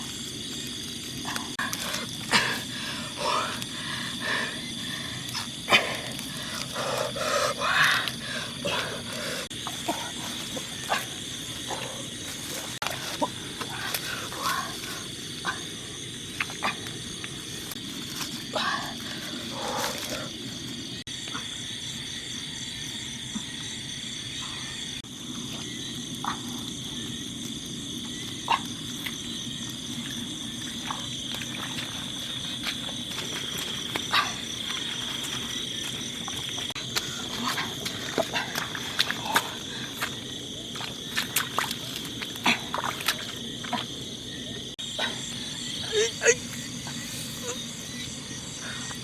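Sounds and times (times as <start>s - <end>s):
high insect trill: 0.0s - 49.0s.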